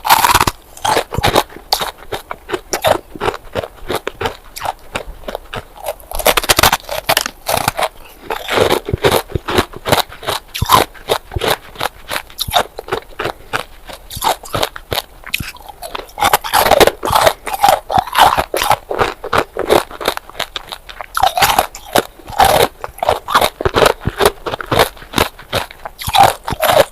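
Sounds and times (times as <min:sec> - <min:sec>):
ice crunching between teeth: 0:00.0 - 0:26.9.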